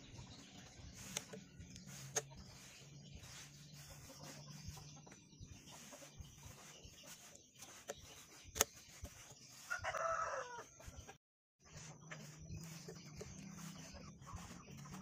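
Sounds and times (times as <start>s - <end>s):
rubber tubing rubbing and clicking: 0.9s - 15.0s.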